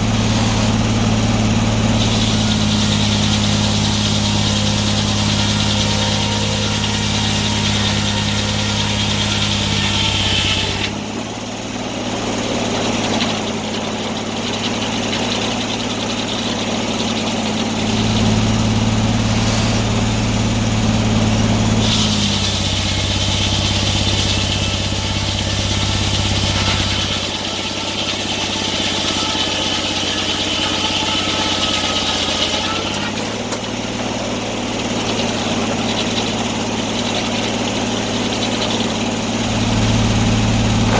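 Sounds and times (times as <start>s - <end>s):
sawmill engine drone: 0.0s - 40.9s.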